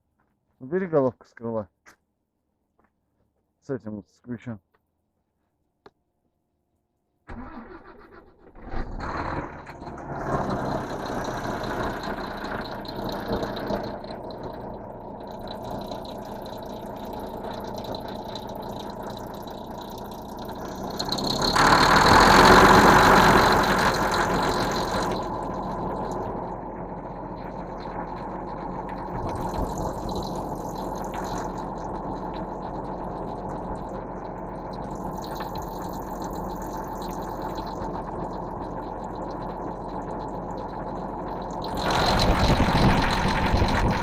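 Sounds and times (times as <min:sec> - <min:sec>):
truck engine starting and idling: 0:07.3 - 0:44.0.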